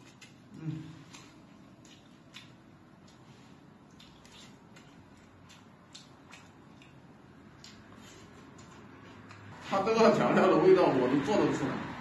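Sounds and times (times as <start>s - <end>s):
man chewing food: 0.0s - 9.6s.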